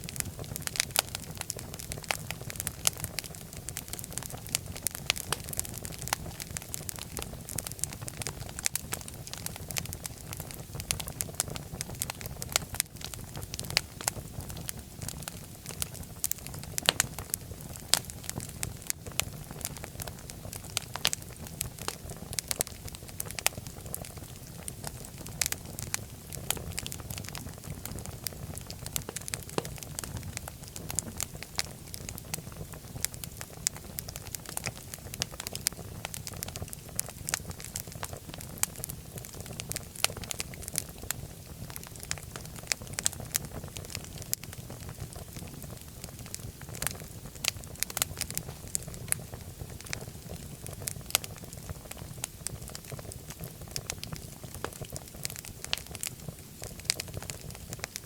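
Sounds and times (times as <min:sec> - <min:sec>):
fire crackling and popping: 0:00.0 - 0:58.0
wood fire rumbling: 0:00.0 - 0:58.0.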